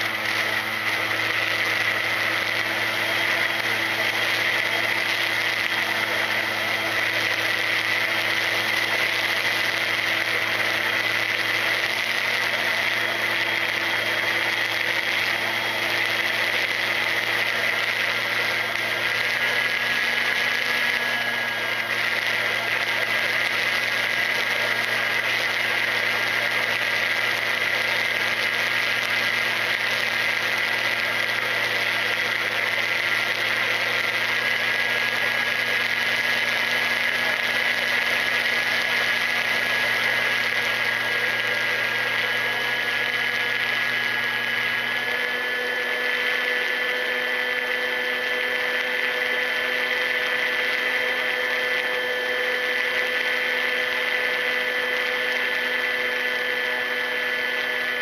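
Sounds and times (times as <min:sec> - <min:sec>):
electric motor and propeller whine: 0:00.0 - 0:58.0.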